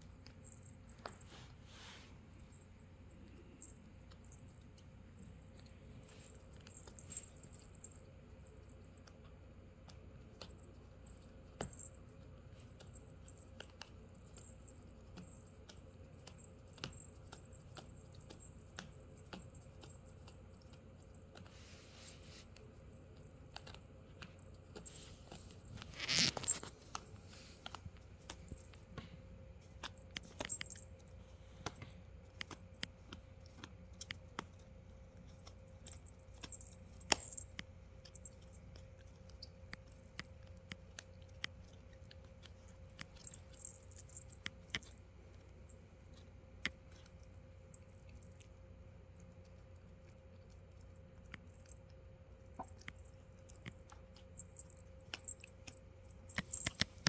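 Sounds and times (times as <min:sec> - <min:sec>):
faint steady hum: 0:00.0 - 0:57.0
puppy gnawing on a sandal: 0:00.0 - 0:57.0.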